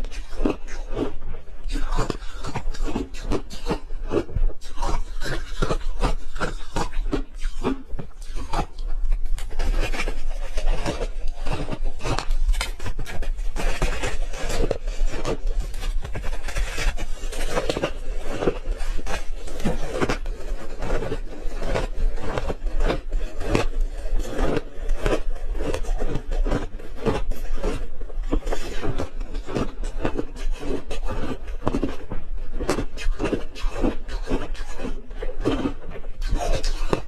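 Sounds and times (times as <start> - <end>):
ice being crunched and chewed: 0.0 - 37.0.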